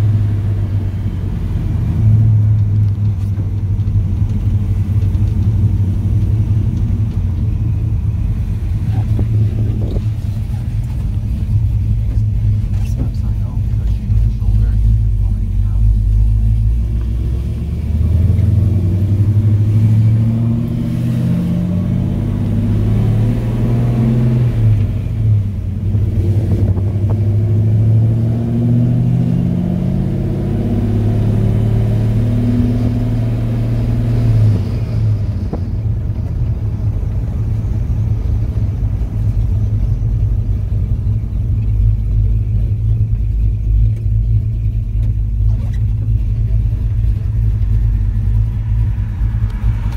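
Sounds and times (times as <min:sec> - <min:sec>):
pickup truck engine driving: 0:00.0 - 0:49.9.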